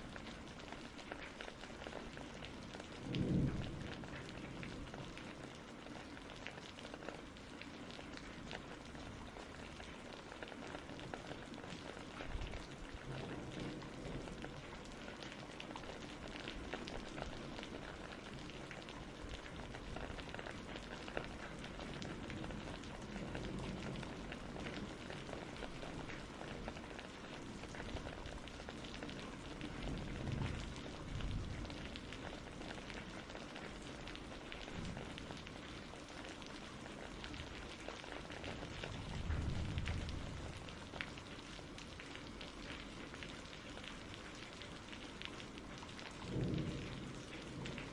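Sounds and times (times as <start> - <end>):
steady rainfall: 0.0 - 47.9
thunder rumbles: 1.5 - 6.0, 11.3 - 43.2, 45.4 - 47.9.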